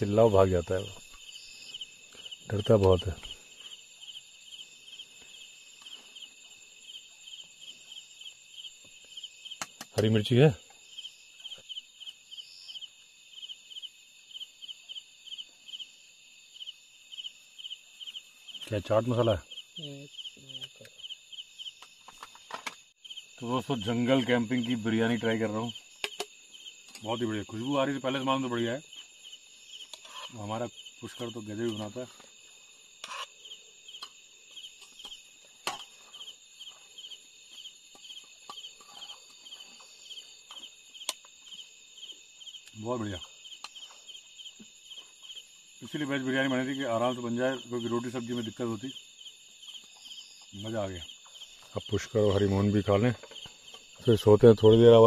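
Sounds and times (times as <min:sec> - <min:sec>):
crickets chirping: 0:00.0 - 0:55.0
high insect drone: 0:00.0 - 0:55.0.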